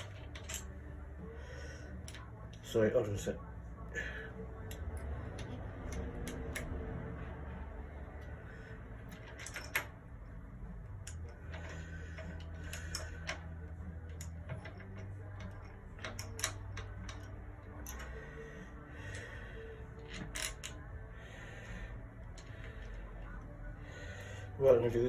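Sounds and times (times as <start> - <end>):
small parts and tools clicking: 0.0 - 2.7, 4.6 - 6.9, 8.1 - 24.6
low steady hum: 0.0 - 25.0.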